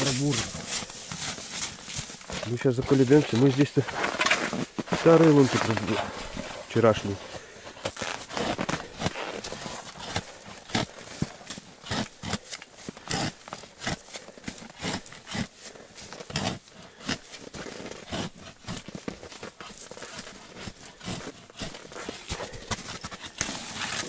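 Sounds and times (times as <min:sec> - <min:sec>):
ice auger blades scraping ice: 0:00.0 - 0:24.0.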